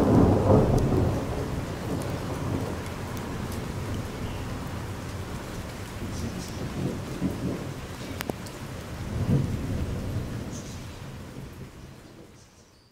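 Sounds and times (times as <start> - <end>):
thunder rumbling: 0.0 - 12.4
steady rain: 0.0 - 12.9.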